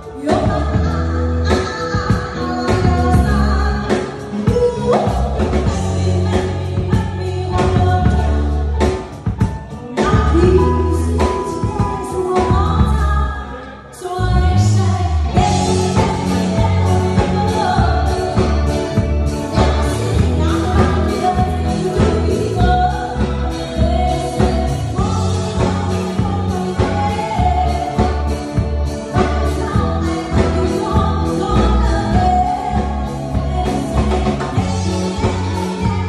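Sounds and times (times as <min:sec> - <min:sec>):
live band playing: 0:00.0 - 0:36.0
woman singing: 0:00.0 - 0:36.0.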